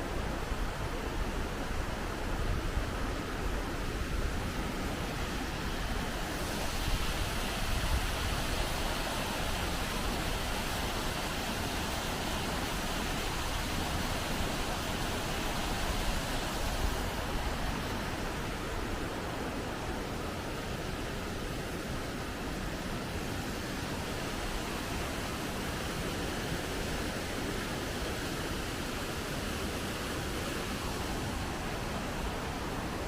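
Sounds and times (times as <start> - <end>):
waterfall rushing: 0.2 - 33.0.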